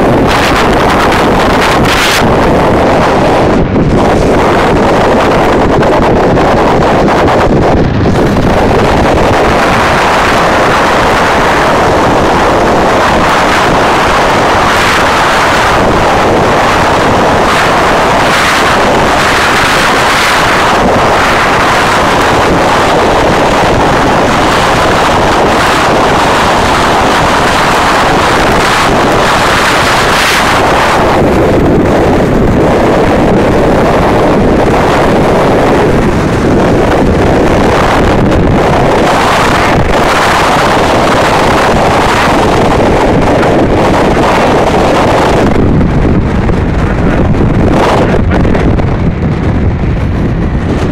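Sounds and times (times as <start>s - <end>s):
motorcycle road noise: 0.0s - 50.9s
wind rushing over microphone: 0.0s - 50.9s.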